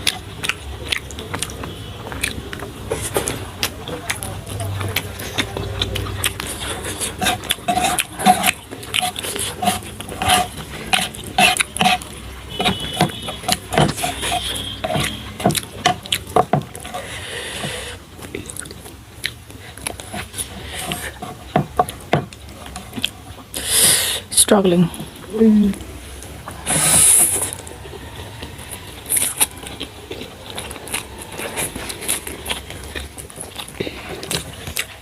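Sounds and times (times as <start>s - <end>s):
person slurping and chewing noodles: 0.0s - 24.3s, 26.1s - 35.0s.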